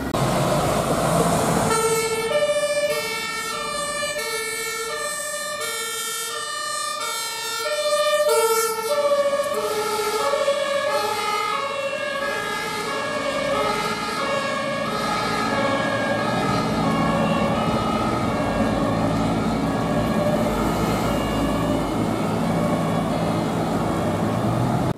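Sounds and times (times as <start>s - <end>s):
road traffic noise: 0.0s - 24.9s
two-tone siren: 1.6s - 24.9s.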